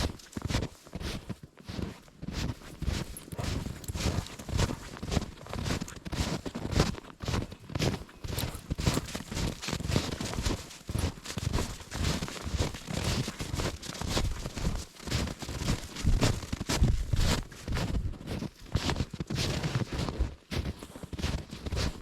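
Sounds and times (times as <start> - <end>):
footsteps crunching in snow: 0.0 - 22.0.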